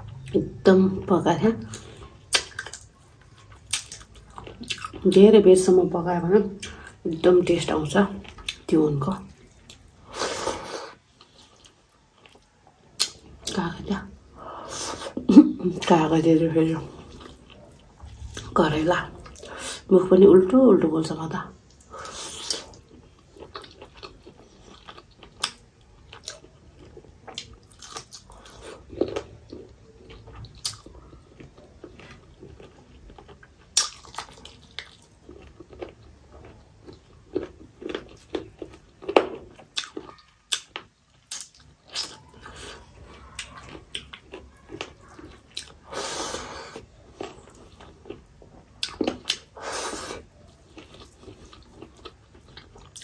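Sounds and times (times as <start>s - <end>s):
close chewing and mouth noises: 0.0s - 53.0s.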